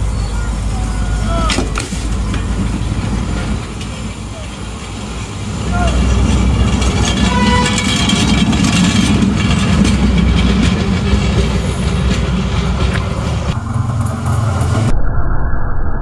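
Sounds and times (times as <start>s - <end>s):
diesel train engine rumble: 0.0s - 14.9s
wheels on rail: 0.0s - 14.9s.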